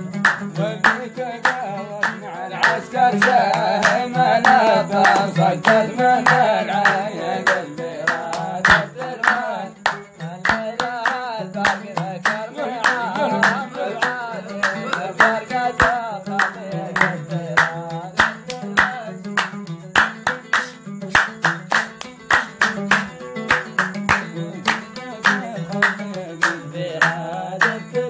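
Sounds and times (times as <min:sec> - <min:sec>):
hand claps: 0:00.0 - 0:28.0
oud playing: 0:00.0 - 0:28.0
person singing: 0:00.0 - 0:28.0.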